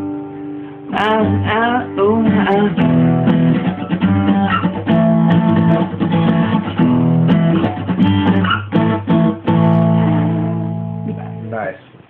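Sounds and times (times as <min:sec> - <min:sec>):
acoustic guitar strumming: 0:00.0 - 0:11.6.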